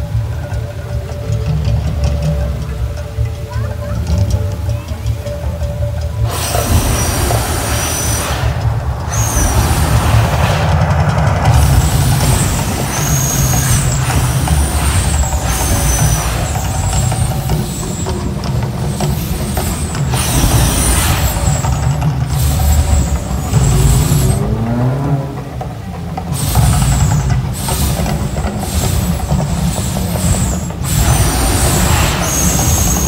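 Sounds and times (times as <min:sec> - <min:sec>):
deep steady rumble: 0:00.0 - 0:33.0
loud hissing gas jets and fountains: 0:00.0 - 0:33.0.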